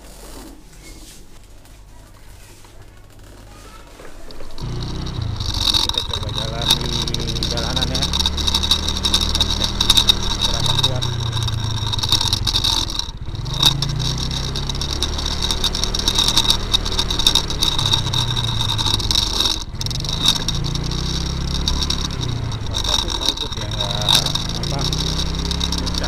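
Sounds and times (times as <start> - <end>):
scooter engine running: 2.6 - 26.0
camera mount rattling and scraping: 4.3 - 26.0.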